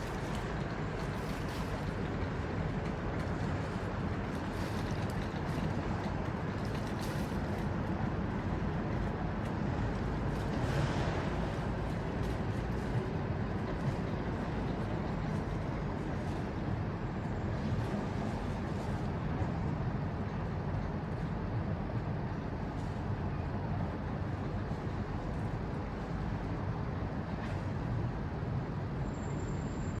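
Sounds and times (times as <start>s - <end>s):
sailboat rumble and hiss: 0.0s - 29.7s.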